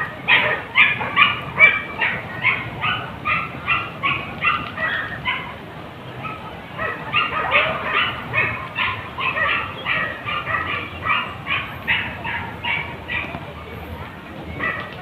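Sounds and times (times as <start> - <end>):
dogs yelping and barking: 0.0 - 13.5, 14.5 - 15.0.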